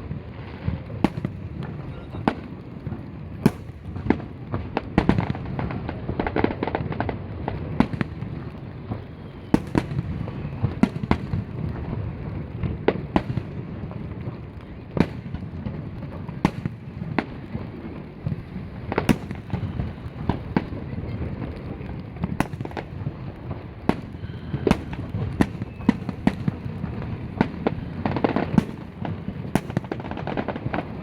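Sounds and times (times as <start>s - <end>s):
fireworks bursting with sharp bangs: 0.0s - 31.0s.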